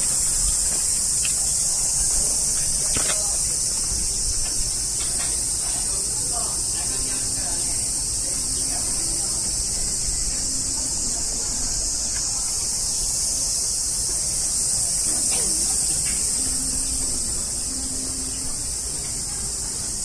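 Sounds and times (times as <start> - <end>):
cicadas chorus: 0.0 - 20.0.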